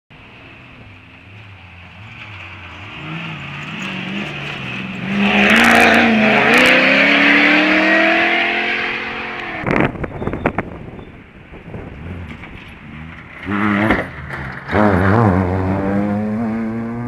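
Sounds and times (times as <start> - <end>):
tyres rushing on dirt: 0.1 - 17.0
off-road vehicle engine revving: 0.6 - 10.7, 11.8 - 17.0.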